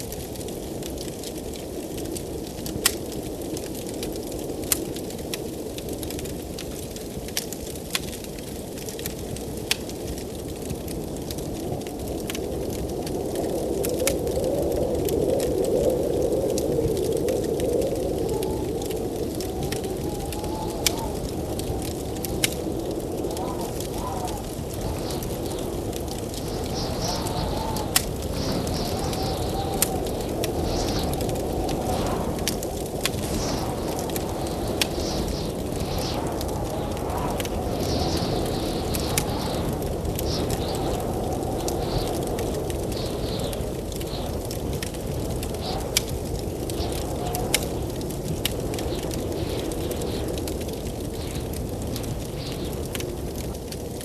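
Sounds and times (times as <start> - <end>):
blizzard wind rushing: 0.0 - 54.0
wood fire crackling and popping: 0.0 - 54.0.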